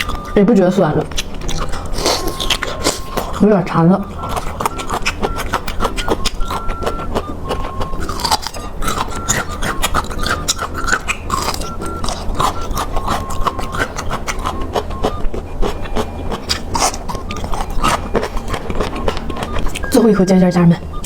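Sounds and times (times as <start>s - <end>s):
chewing crunchy food: 0.0s - 21.0s.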